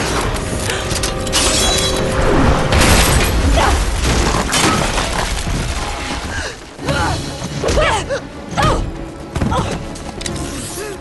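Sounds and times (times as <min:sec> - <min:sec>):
action film music: 0:00.0 - 0:11.0.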